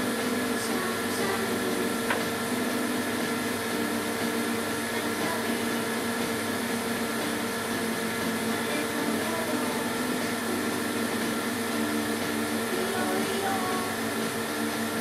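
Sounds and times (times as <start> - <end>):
tape drive air pump whirring: 0.0 - 15.0.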